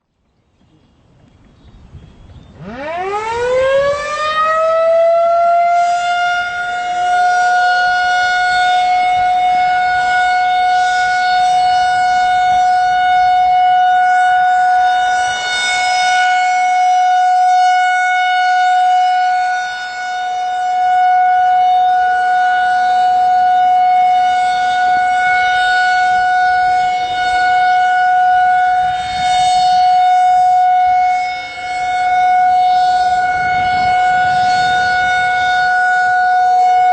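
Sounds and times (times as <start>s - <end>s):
warning siren winding up: 2.5s - 36.9s.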